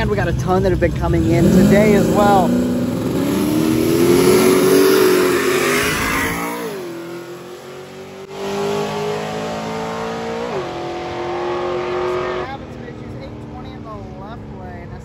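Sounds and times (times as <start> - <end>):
drag car engines revving: 0.0 - 15.0.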